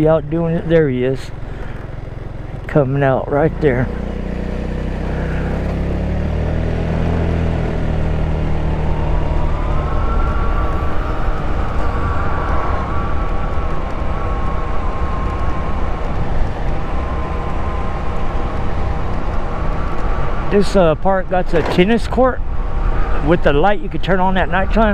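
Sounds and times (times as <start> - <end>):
low wind rumble: 0.0 - 24.9
scooter engine running: 0.4 - 20.5.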